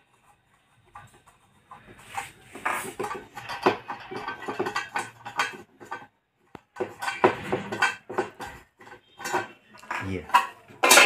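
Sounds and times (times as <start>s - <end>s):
electrical board parts knocking: 0.0s - 11.0s.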